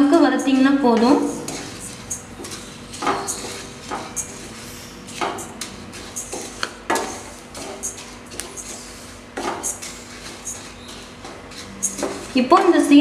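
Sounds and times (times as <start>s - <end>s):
wooden spatula scraping a pan: 1.1s - 12.5s.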